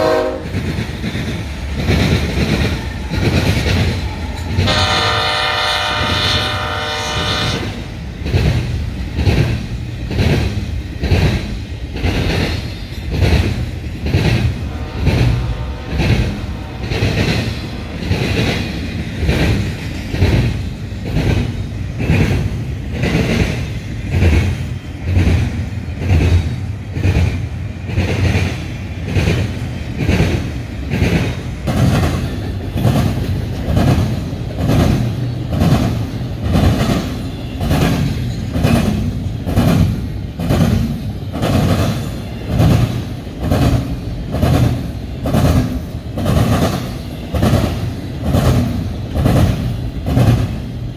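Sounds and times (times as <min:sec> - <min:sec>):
freight train rumbling: 0:00.0 - 0:50.9
wheels clacking over rail joints: 0:00.0 - 0:50.9.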